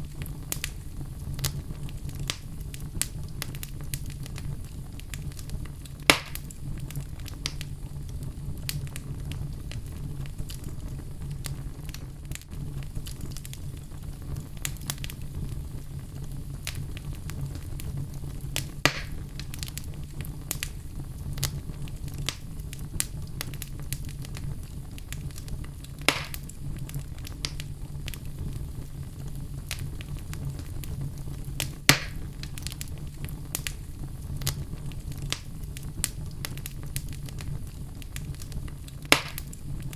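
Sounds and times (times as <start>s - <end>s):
low fire rumble: 0.0s - 39.9s
sharp fire pops: 0.0s - 39.9s
wood fire crackling: 0.0s - 39.9s.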